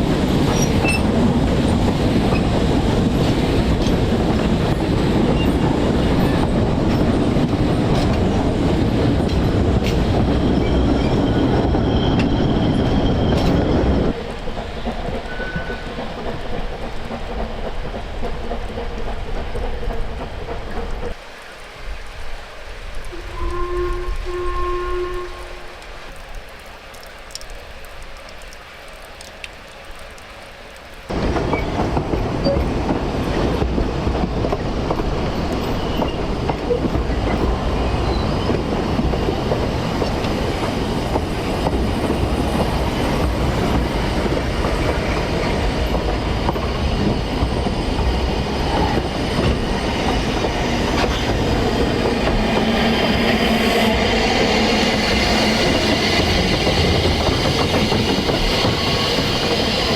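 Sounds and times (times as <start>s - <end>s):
steam train rumbling: 0.0s - 21.2s, 22.2s - 26.2s, 31.0s - 59.9s
wheels clattering on rails: 0.0s - 21.2s, 31.1s - 59.9s.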